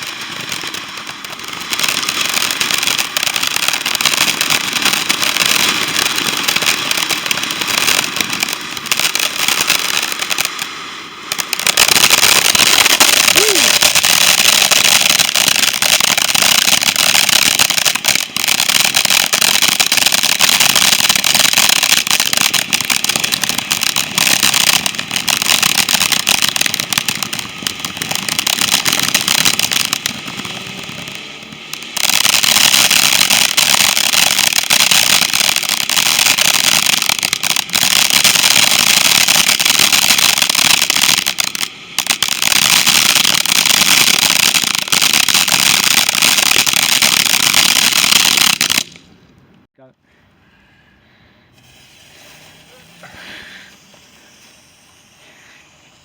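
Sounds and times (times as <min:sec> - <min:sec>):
firework crackling and hissing: 0:00.0 - 0:49.9, 0:50.5 - 0:56.0.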